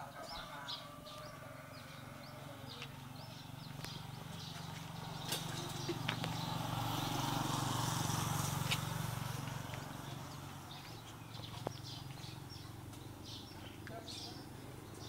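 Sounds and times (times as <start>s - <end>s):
low engine hum: 1.3s - 15.0s.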